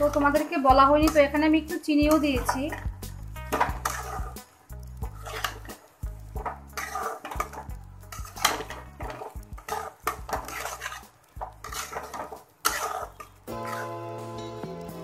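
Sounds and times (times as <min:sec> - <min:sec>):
metal spoon scraping metal pan: 0:00.0 - 0:14.2.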